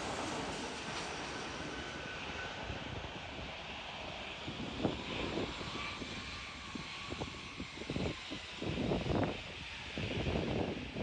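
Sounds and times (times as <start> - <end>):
jet airliner landing: 0.0 - 11.0
wind buffeting microphone: 0.0 - 11.0.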